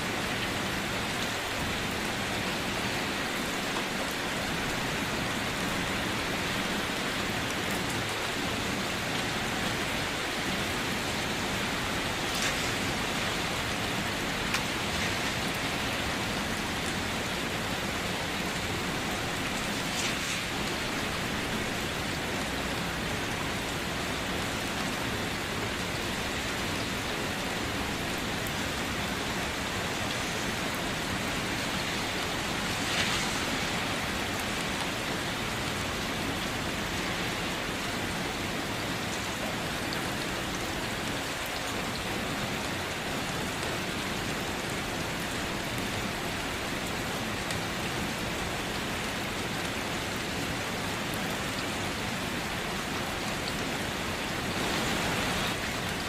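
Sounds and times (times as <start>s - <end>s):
loud raindrops: 0.0s - 56.0s
rain falling: 0.0s - 56.0s.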